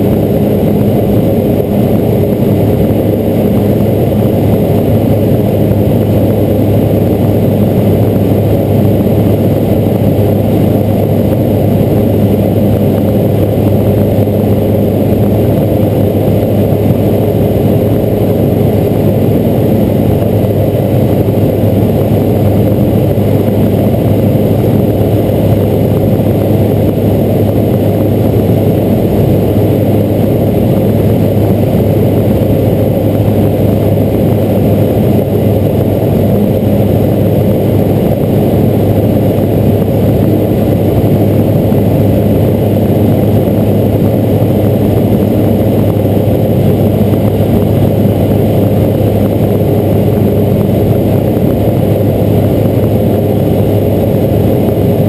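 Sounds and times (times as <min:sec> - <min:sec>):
aircraft engine drone in cockpit: 0:00.0 - 0:55.0.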